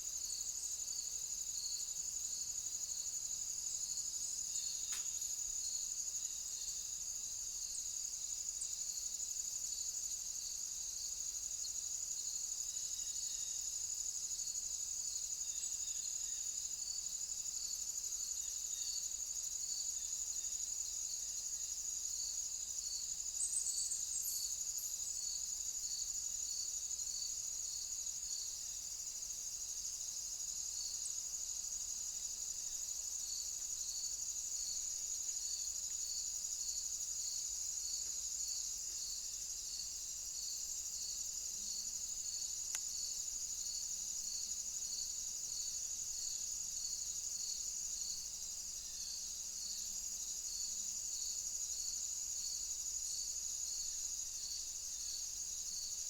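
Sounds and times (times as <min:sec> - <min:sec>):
cricket chirping: 0:00.0 - 0:56.0
insect buzz: 0:00.0 - 0:56.0.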